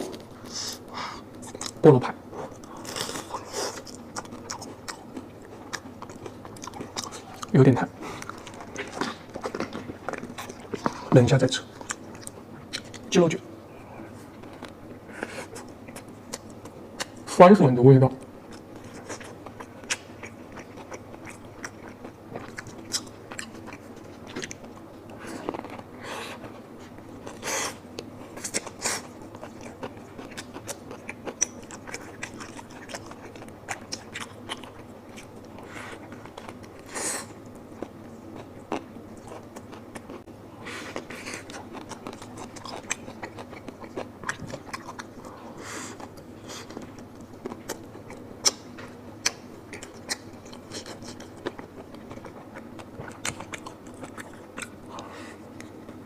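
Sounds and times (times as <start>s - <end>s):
person chewing: 0.0s - 13.1s, 13.8s - 17.4s, 18.2s - 56.0s.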